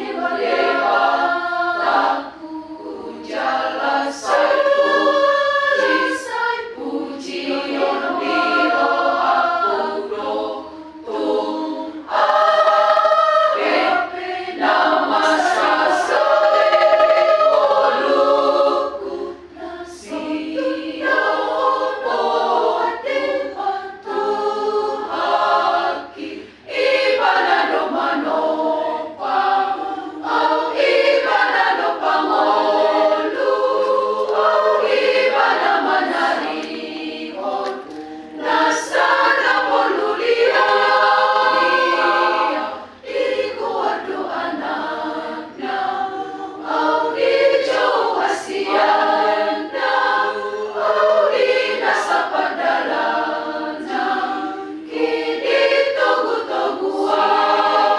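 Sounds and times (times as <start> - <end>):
choir singing: 0.0 - 57.9.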